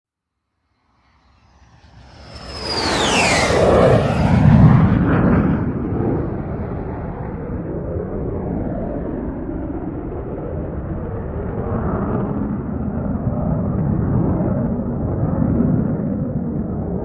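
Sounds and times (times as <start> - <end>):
jet fighter engine rumble: 1.1 - 17.0.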